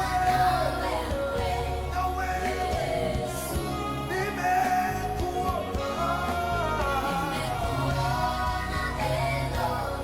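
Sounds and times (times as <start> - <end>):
worship song with bass and singing: 0.0 - 10.0.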